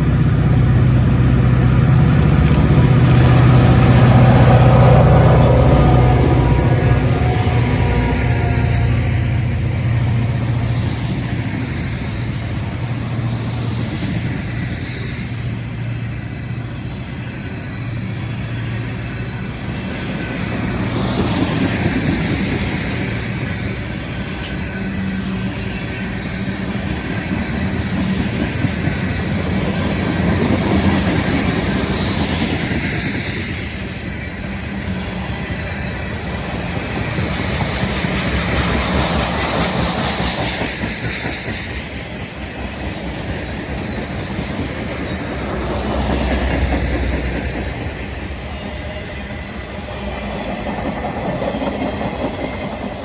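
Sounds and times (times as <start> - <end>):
diesel locomotive hum: 0.0 - 53.0
train rolling on rails: 0.0 - 53.0.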